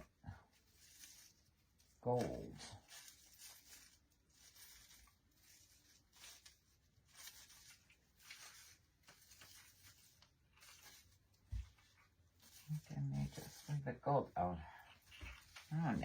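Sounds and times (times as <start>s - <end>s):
rustling and scraping of decorations: 0.0s - 16.0s.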